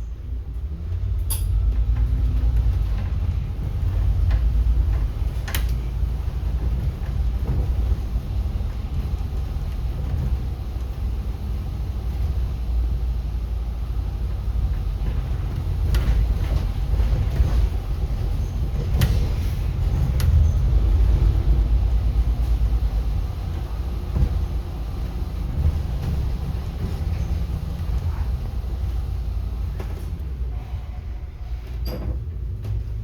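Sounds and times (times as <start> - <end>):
city bus rumbling: 0.0 - 33.0.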